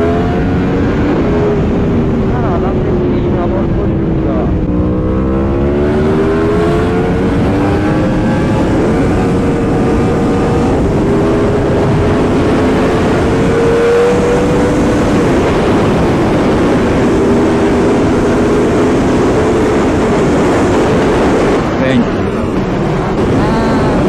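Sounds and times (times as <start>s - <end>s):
motorcycle engine revving: 0.0s - 24.0s
wind rushing: 0.0s - 24.0s.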